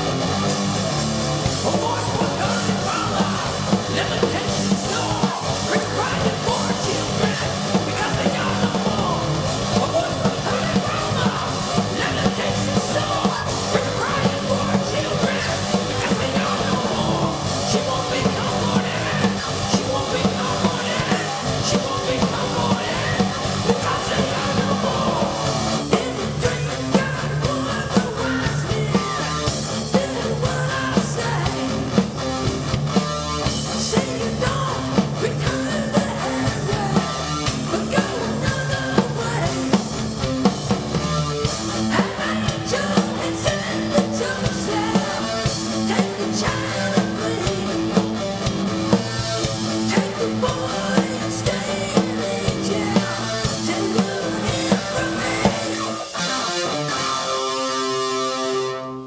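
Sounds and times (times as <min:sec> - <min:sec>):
drum kit beat: 0:00.0 - 0:56.9
electric guitars: 0:00.0 - 0:59.0
rock band playing: 0:00.0 - 0:59.0.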